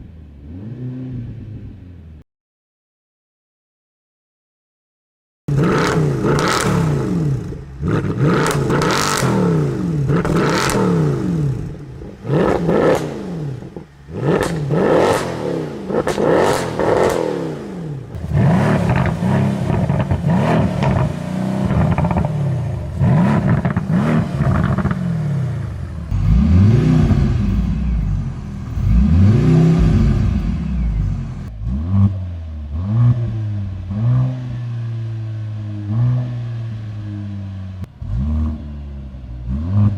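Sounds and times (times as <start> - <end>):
car engine revving: 0.0 - 2.2, 5.5 - 39.9.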